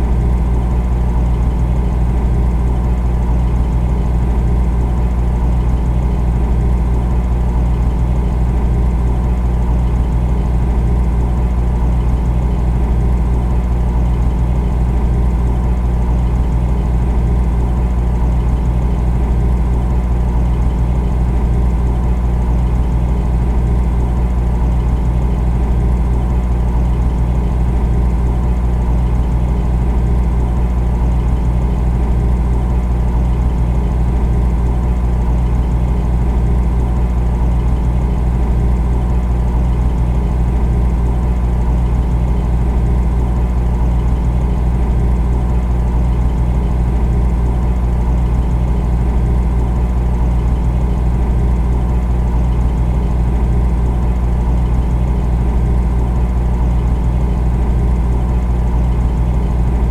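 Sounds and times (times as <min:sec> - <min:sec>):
refrigerator hum: 0:00.0 - 0:59.9.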